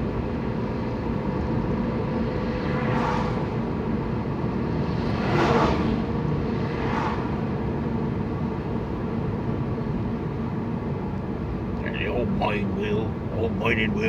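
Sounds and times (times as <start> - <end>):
car engine and tyre rumble: 0.0 - 13.6
passing traffic: 0.0 - 14.0.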